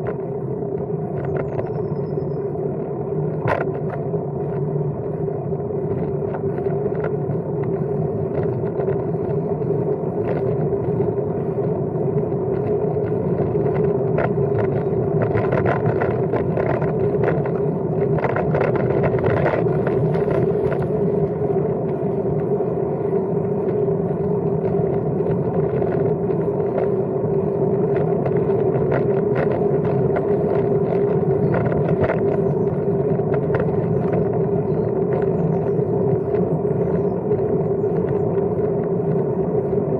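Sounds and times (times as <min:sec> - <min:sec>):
bike tyres rolling on path: 0:00.0 - 0:39.9.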